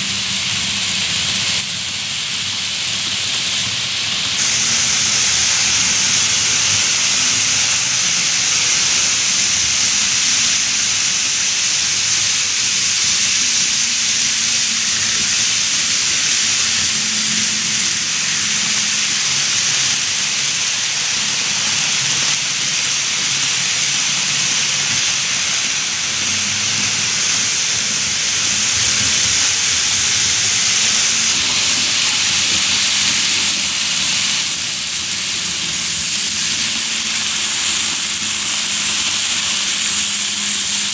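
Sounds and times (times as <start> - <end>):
faint motor hum: 0.0 - 40.9
model train wheels hissing on rails: 0.0 - 40.9.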